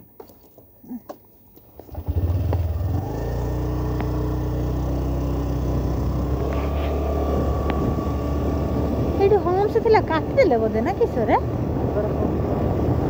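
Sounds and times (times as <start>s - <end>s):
motorcycle engine running: 1.8s - 13.0s.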